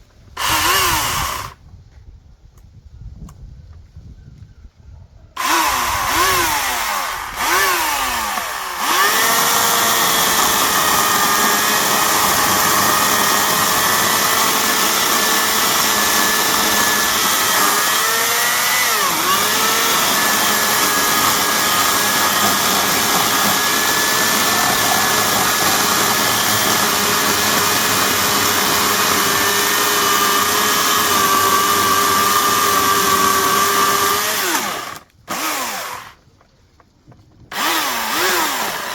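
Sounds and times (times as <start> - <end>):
electric chainsaw motor: 0.4 - 1.6, 5.4 - 36.2, 37.5 - 38.9.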